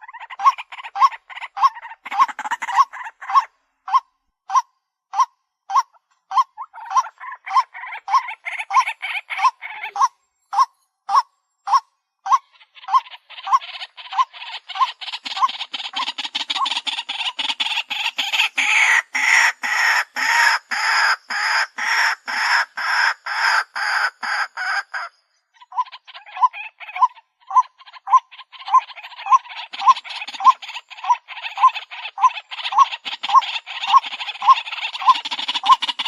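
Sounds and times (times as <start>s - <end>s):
waterhen calling: 0.0s - 4.6s, 5.2s - 36.0s.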